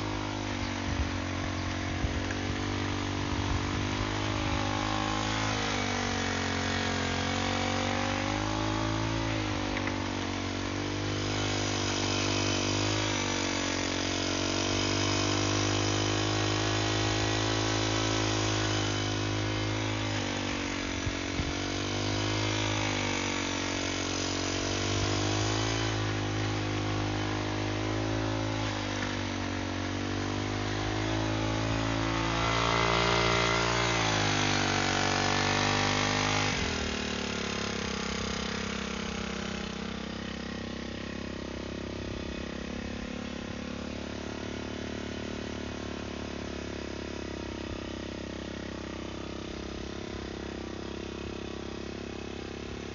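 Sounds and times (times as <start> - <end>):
small engine running under load: 0.0 - 52.9.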